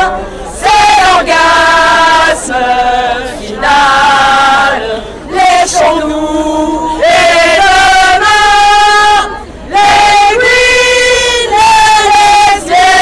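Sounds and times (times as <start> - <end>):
chanting through a megaphone: 0.0 - 13.0.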